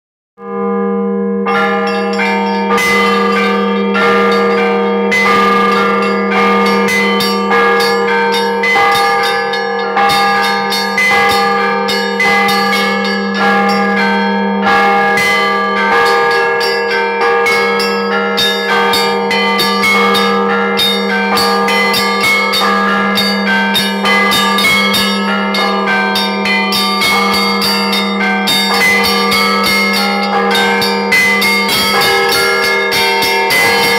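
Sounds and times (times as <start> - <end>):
deep bell tone: 0.4 - 33.9
small high bells struck rhythmically: 0.4 - 33.9.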